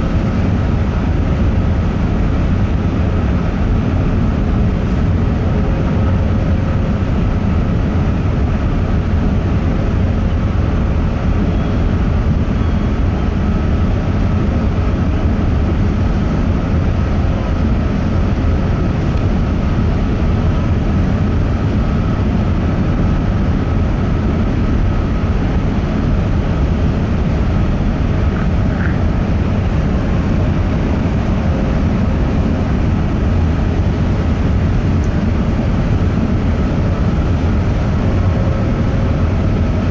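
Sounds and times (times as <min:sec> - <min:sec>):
faint machinery hum: 0:00.0 - 0:39.9
ferry engines rumbling: 0:00.0 - 0:39.9.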